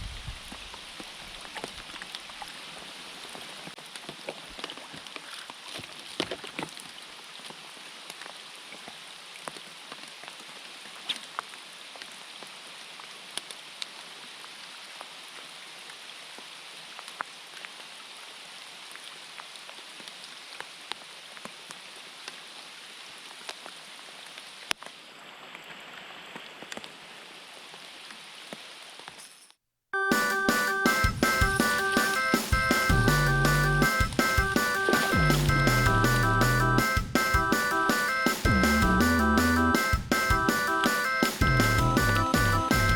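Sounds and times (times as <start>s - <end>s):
steady rain falling: 0.0s - 29.4s, 30.1s - 42.9s.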